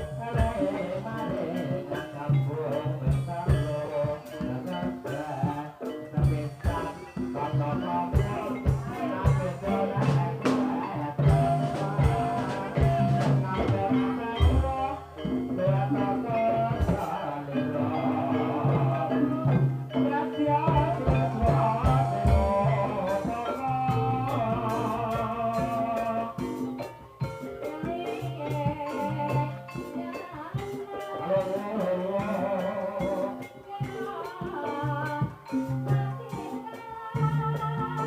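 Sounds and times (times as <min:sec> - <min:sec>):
gamelan ensemble music: 0:00.0 - 0:38.0
person singing: 0:00.0 - 0:38.0.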